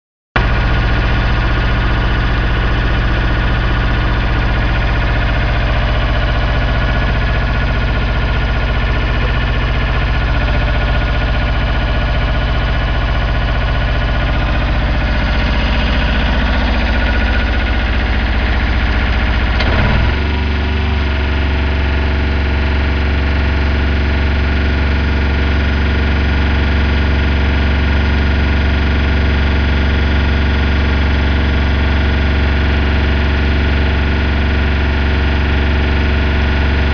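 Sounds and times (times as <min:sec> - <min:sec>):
generator engine running: 0:00.4 - 0:36.9.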